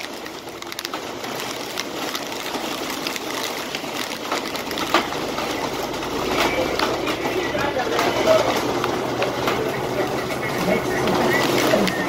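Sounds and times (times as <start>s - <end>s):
heavy rain pouring: 0.0s - 12.0s
raindrops ticking close by: 0.0s - 12.0s.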